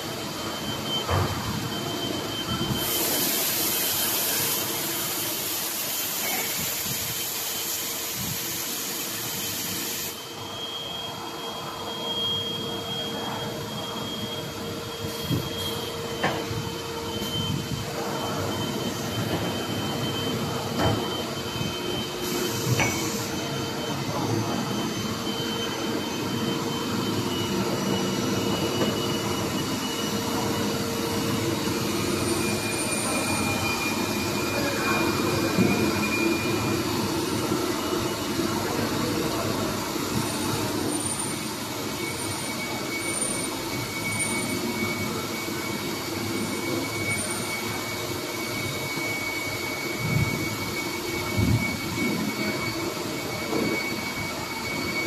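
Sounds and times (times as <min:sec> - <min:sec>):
grinding machines whining din: 0:10.2 - 0:55.0.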